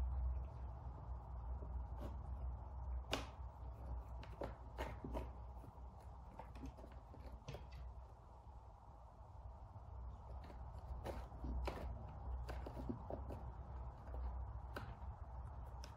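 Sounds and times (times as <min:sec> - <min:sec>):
low steady hum: 0:00.0 - 0:15.9
cat claws scratching cardboard: 0:00.5 - 0:08.2, 0:10.0 - 0:15.9.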